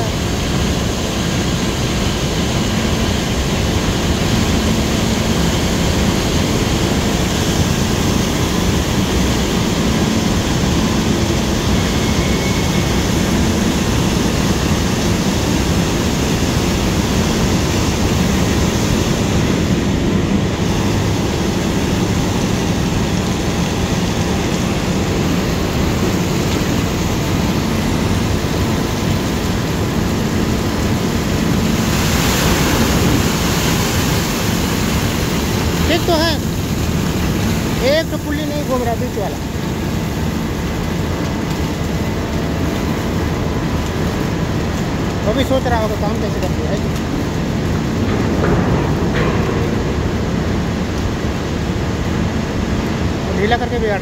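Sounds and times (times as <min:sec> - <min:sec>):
crane mechanical running noise: 0:00.0 - 0:54.0
water streaming: 0:00.1 - 0:54.0.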